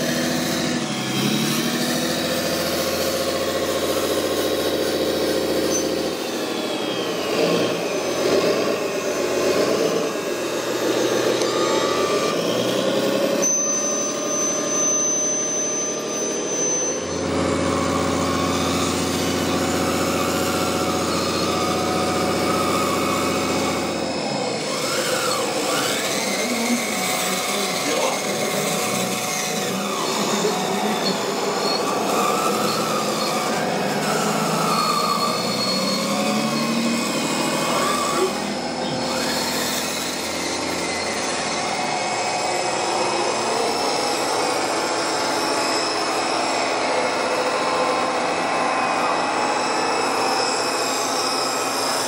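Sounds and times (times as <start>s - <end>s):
motor running: 0.0s - 52.0s.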